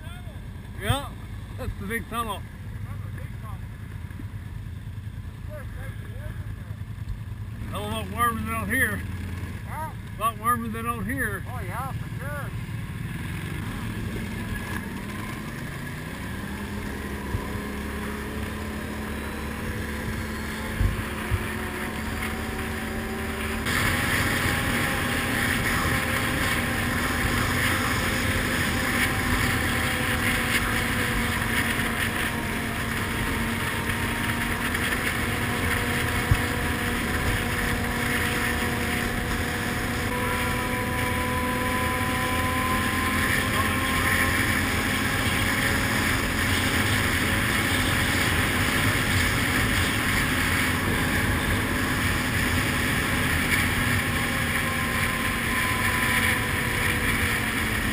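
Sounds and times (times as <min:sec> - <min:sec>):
quad engine running: 0:00.0 - 0:57.9.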